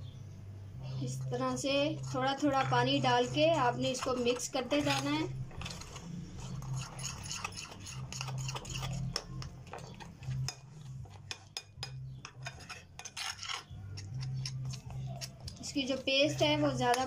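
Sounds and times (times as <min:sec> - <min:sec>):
metal spoon scraping ceramic plate: 0:00.9 - 0:17.0.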